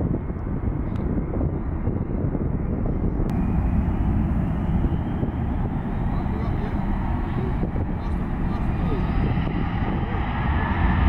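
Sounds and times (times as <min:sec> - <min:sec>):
distant jet engines rumbling: 0:00.0 - 0:11.0.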